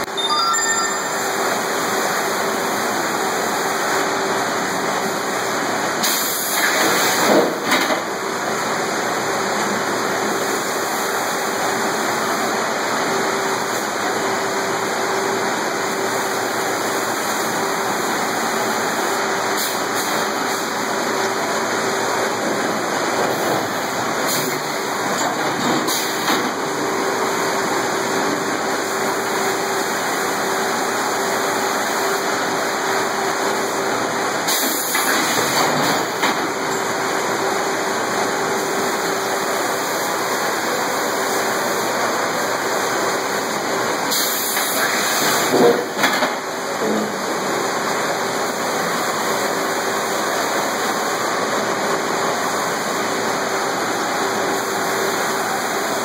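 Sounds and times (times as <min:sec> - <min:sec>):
sawmill machinery running: 0:00.8 - 0:56.0.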